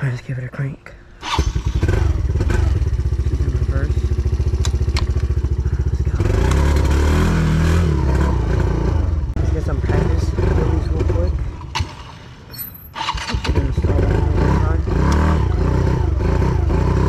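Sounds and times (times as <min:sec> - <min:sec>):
quad engine revving: 0:01.2 - 0:12.1, 0:13.0 - 0:17.0
quad engine starting and idling: 0:01.2 - 0:17.0.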